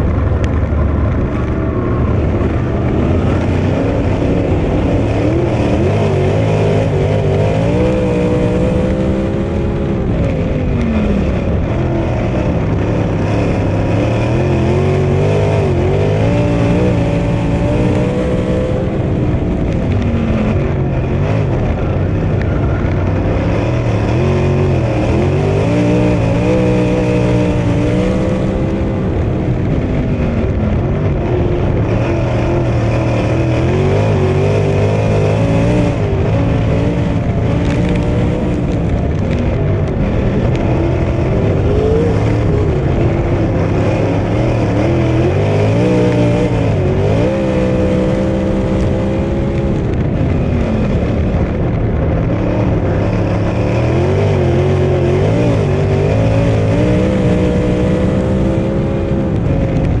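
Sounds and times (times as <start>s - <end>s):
race car engine revving: 0.0s - 60.0s.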